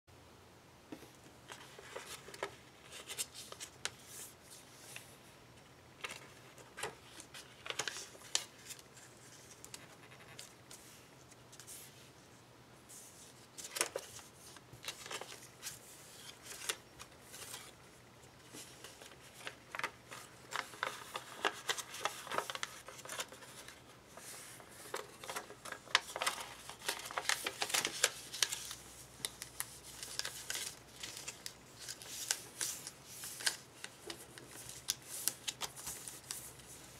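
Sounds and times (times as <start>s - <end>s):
paper being folded and creased: 1.5s - 5.0s, 6.0s - 11.0s, 12.9s - 17.8s, 18.4s - 36.9s.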